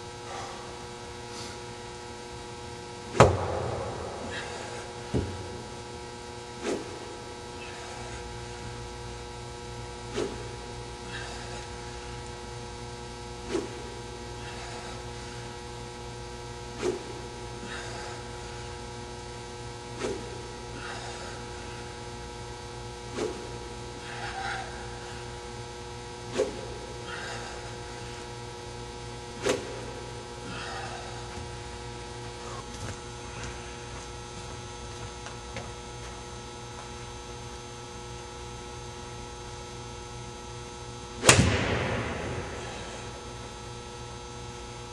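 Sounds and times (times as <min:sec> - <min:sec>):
electrical hum: 0:00.0 - 0:44.9.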